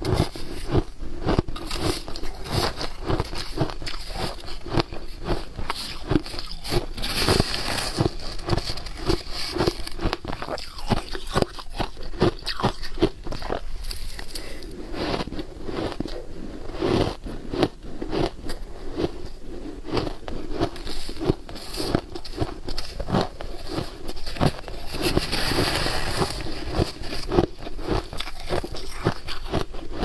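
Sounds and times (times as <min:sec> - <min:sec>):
ice crunching between teeth: 0:00.0 - 0:30.0.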